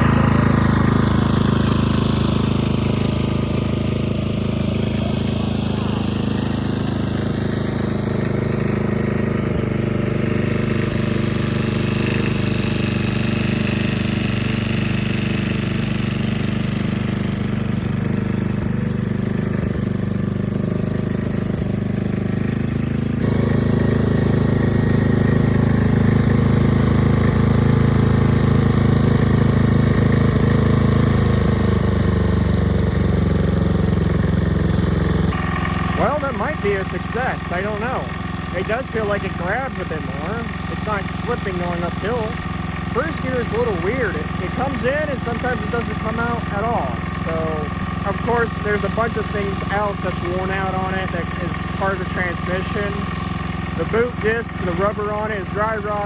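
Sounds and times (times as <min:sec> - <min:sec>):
riding mower engine running: 0:00.0 - 0:56.0.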